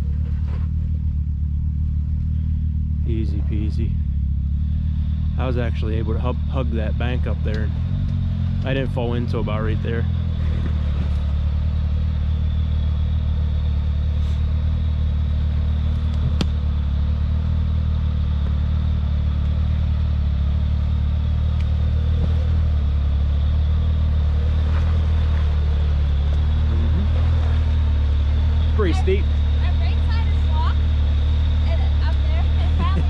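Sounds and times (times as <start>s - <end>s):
engine idling with low hum: 0.0s - 33.0s.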